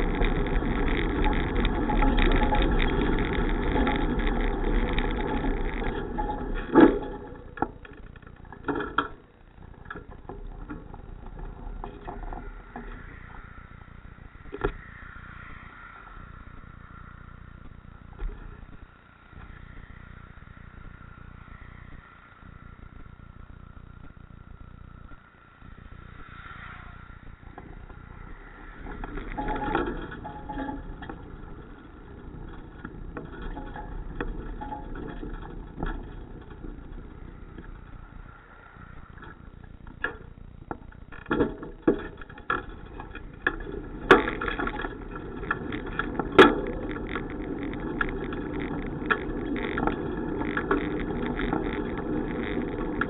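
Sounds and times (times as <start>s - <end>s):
sharp knocks and rattles: 0.0s - 21.9s, 27.0s - 53.0s
bicycle road and wind noise: 0.0s - 53.0s.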